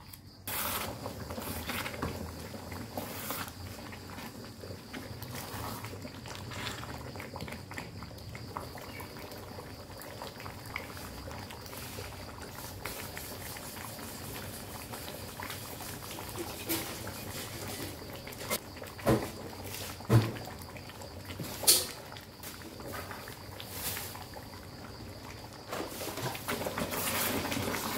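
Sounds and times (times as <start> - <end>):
gravy bubbling in a wok: 0.0 - 27.9.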